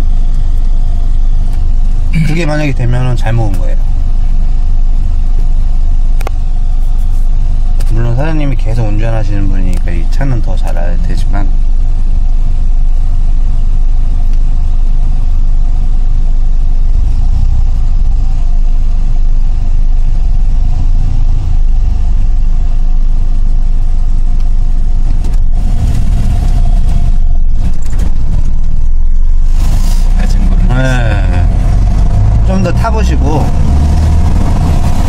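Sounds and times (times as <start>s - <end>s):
car engine and road noise: 0.0s - 10.8s, 15.8s - 35.0s.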